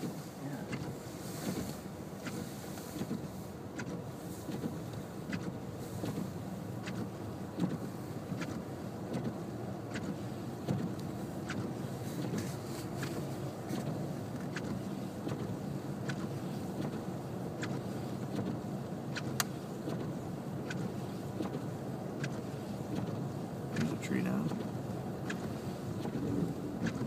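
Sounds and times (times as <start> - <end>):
car driving through snow rumble: 0.0 - 27.0
windshield wipers ticking: 0.0 - 27.0.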